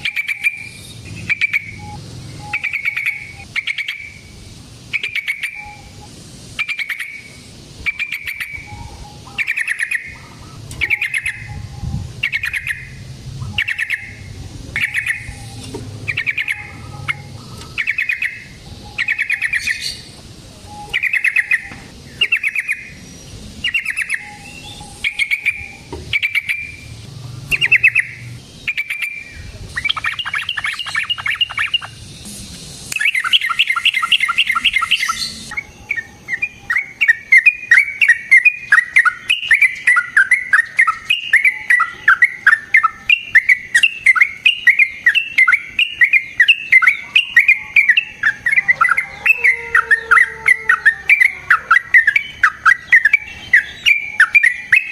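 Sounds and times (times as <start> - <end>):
bulbul calling: 0.0 - 54.9.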